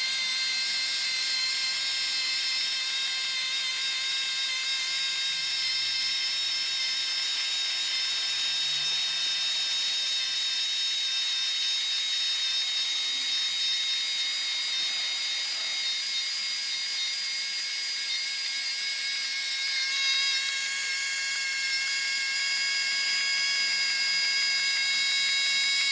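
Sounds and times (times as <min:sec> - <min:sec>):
small electric motor whining: 0:00.0 - 0:25.9.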